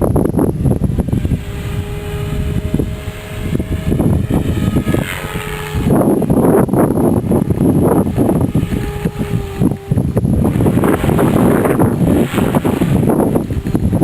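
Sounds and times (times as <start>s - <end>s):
rc helicopter rotor whine: 0.0s - 14.0s
wind buffeting microphone: 0.0s - 14.0s.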